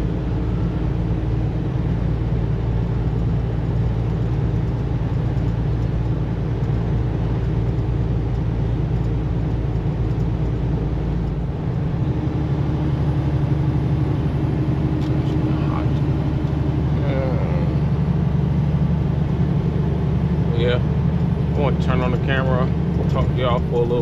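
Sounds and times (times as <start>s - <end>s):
low hum: 0.0s - 24.0s
truck engine and road noise: 0.0s - 24.0s.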